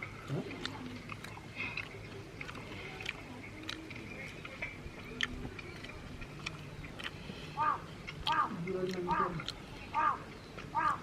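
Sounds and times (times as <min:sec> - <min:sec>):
chewing and mouth clicks: 0:00.0 - 0:11.0.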